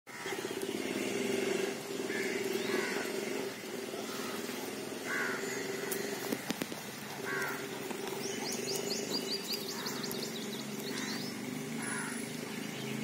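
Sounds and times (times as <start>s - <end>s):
pulsing motor drone: 0.1s - 13.0s
bird chirping: 0.2s - 13.0s.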